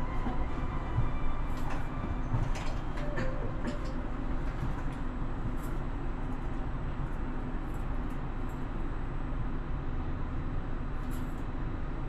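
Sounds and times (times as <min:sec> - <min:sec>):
train car equipment hum: 0:00.0 - 0:12.0.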